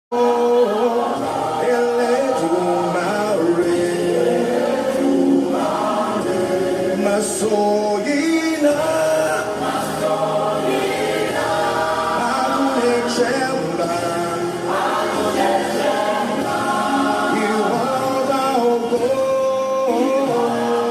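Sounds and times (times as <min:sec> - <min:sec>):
choir singing gospel song: 0:00.2 - 0:20.9.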